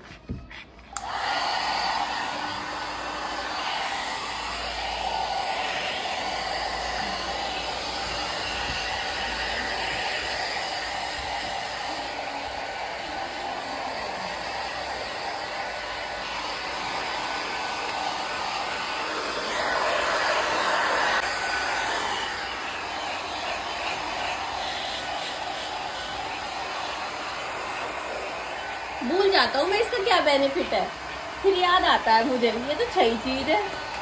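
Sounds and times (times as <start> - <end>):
hair dryer blowing: 0.0 - 34.0.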